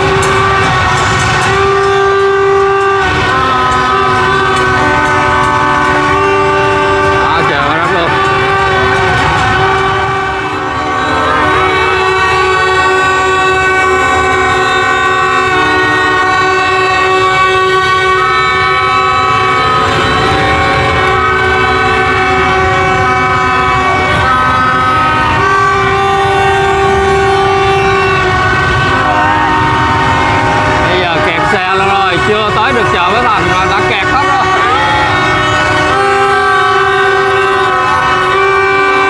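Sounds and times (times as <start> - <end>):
horns blaring: 0.0 - 39.0
traffic rumble: 0.0 - 39.0.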